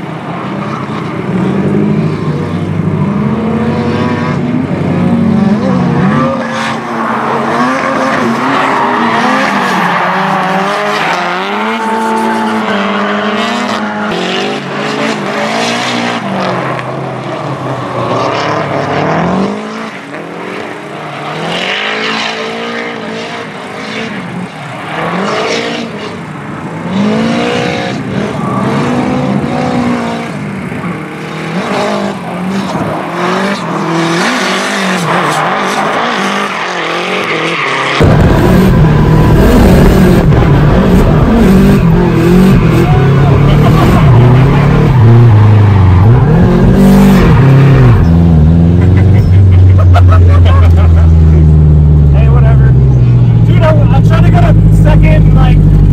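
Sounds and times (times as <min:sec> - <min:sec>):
car engines revving: 0:00.0 - 0:55.9
tires screeching: 0:00.0 - 0:55.9.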